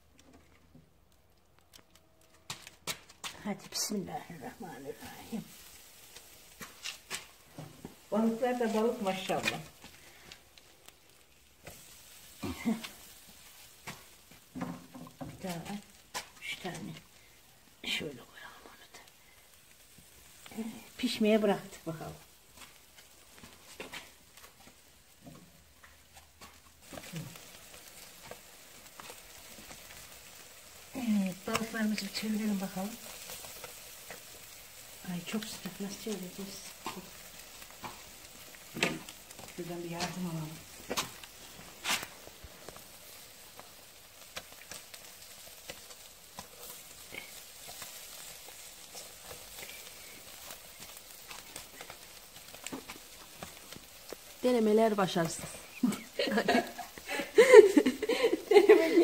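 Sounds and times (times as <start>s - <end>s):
embers crackling and popping: 0.0s - 59.0s
fish sizzling on a grill: 0.0s - 59.0s.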